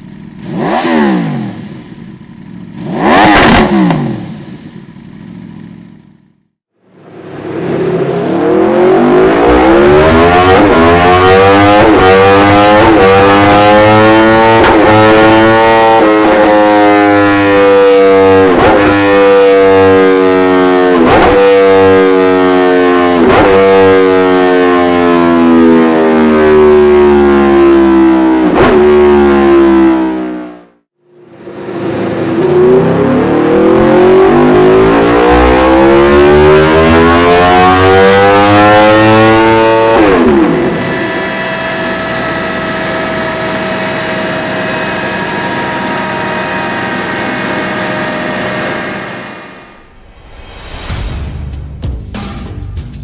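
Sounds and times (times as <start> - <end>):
motorcycle engine revving: 0.0 - 50.2.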